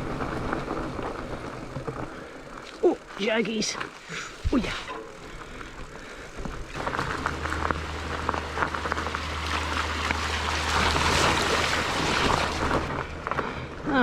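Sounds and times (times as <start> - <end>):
bike clicks and rattles: 0.0 - 14.0
wind and tyre rumble: 0.0 - 14.0.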